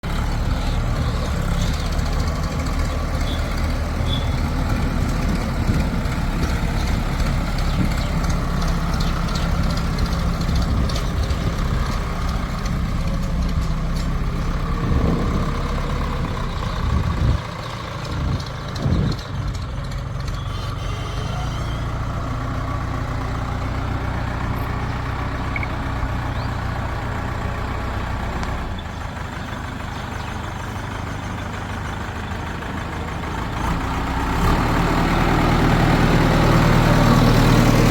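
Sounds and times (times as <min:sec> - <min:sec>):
backhoe diesel engine running: 0:00.0 - 0:37.9.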